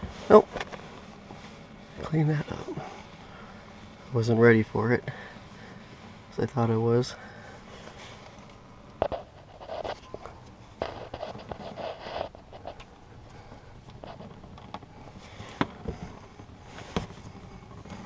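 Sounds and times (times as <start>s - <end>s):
rustling and scraping: 0.0s - 6.3s, 7.4s - 18.0s.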